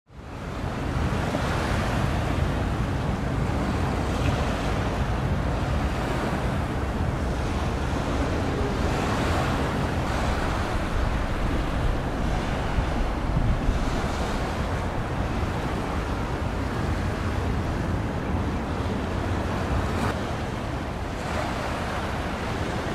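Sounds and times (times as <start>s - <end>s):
sea waves: 0.1s - 22.9s
wind buffeting microphone: 0.2s - 22.9s.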